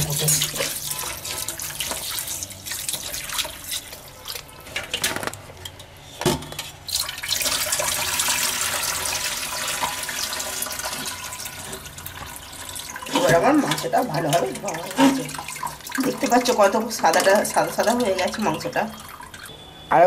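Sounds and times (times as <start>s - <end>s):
tap water running into bowl: 0.0s - 4.5s, 6.9s - 19.5s.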